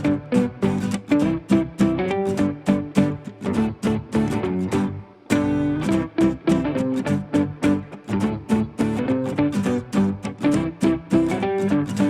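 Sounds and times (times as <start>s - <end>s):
guitar tune with steady beat: 0.0s - 12.0s.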